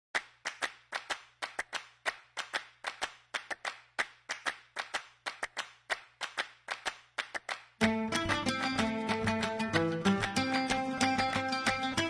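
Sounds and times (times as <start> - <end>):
sharp handclaps: 0.2 - 12.0.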